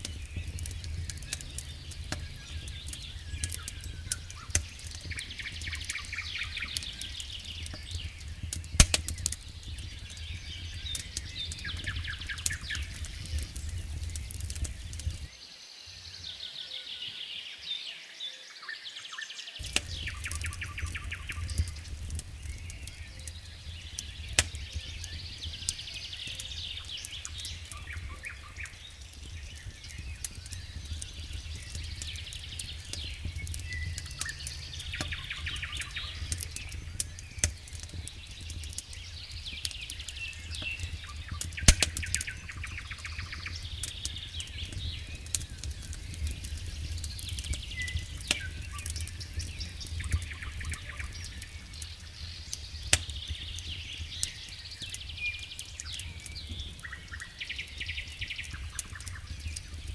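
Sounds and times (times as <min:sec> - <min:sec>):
campfire crackling and popping: 0:00.0 - 0:15.4, 0:19.6 - 0:59.9
songbirds chirping: 0:00.0 - 0:59.9.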